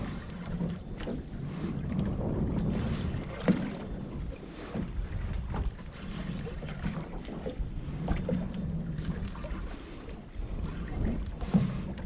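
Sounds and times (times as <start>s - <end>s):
water washing against hull: 0.0s - 12.0s
wind buffeting microphone: 0.0s - 12.0s.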